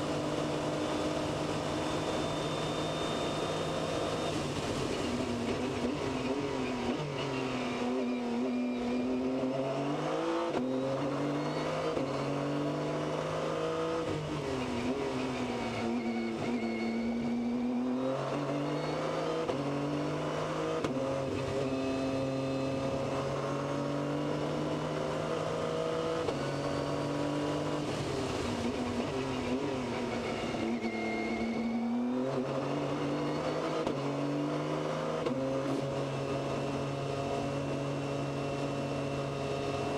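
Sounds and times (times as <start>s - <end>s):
race car engine revving through gears: 0.0s - 39.9s.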